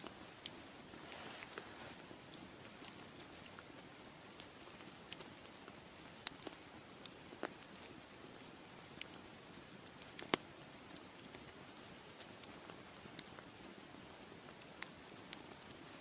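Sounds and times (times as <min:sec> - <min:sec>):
fire pops and snaps: 0:00.0 - 0:16.0.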